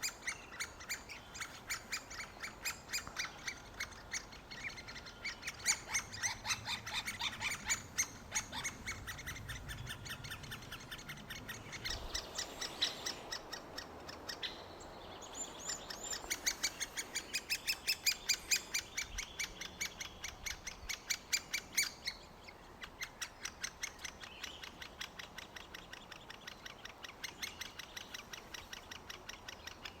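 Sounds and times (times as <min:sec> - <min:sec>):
woodpecker nestlings begging calls: 0:00.0 - 0:30.0.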